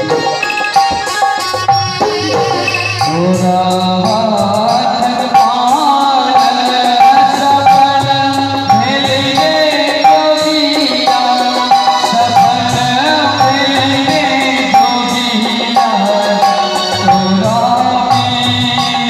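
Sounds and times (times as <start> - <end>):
song with ornamented melody: 0.0 - 19.0.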